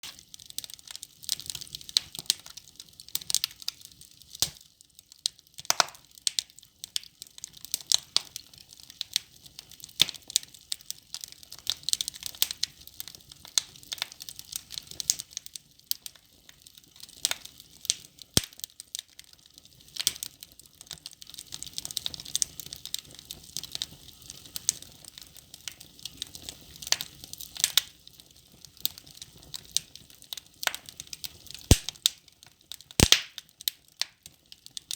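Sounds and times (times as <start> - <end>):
logs crackling in fireplace: 0.0 - 34.9.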